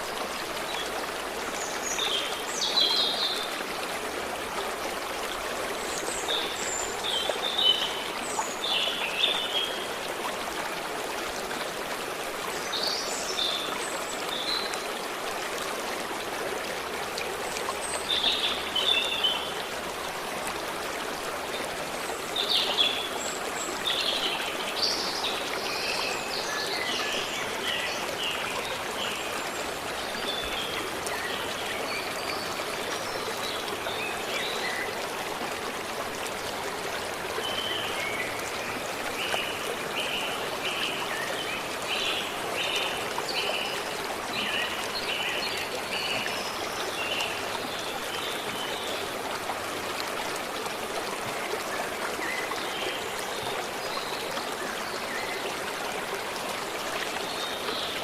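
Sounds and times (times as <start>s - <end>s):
forest stream flowing: 0.0s - 58.0s.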